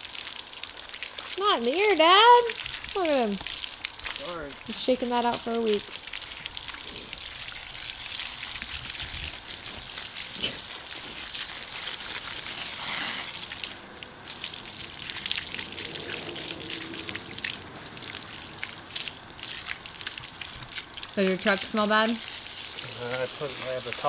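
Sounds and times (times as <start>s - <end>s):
hose water spraying: 0.0s - 24.0s
water splashing on concrete: 0.0s - 24.0s.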